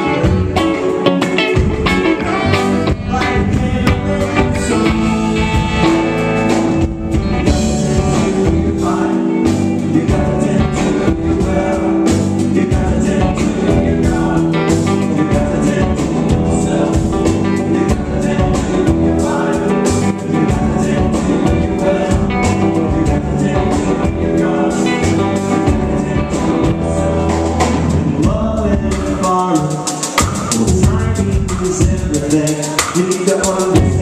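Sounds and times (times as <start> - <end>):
electric bass: 0.0 - 29.5, 30.2 - 32.4, 33.5 - 34.0
drum beat: 0.0 - 34.0
electric guitar: 0.0 - 34.0
live band playing: 0.0 - 34.0.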